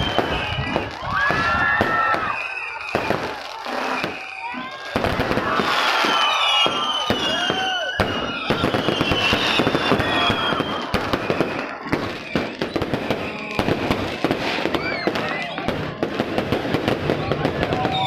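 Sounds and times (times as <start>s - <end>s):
fireworks bangs and crackling: 0.0s - 18.0s
whistling firework shells: 0.0s - 18.0s.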